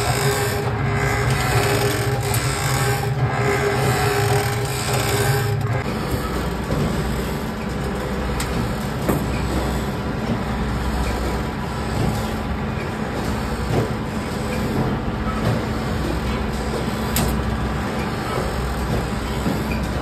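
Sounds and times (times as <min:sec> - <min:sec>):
extruder machine drone: 0:00.0 - 0:20.0.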